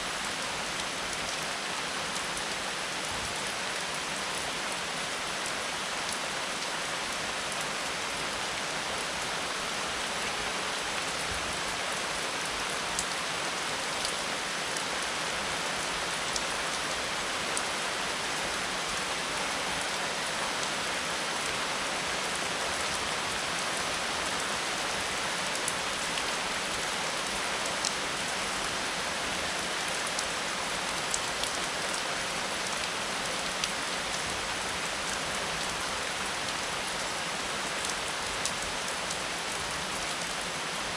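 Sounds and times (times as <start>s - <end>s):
steady rain on a surface: 0.0s - 40.9s.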